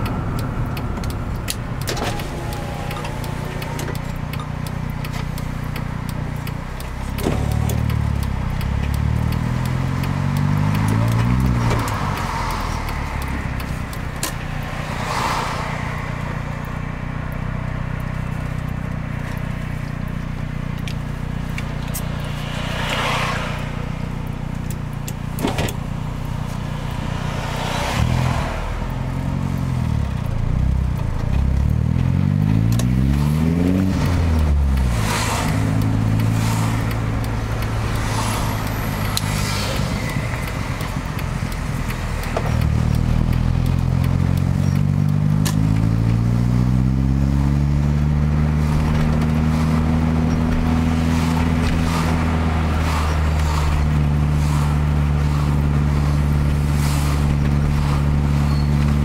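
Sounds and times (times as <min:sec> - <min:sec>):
car engine: 0:00.0 - 0:59.0
passing traffic whooshes: 0:00.0 - 0:59.0
road noise: 0:00.0 - 0:59.0.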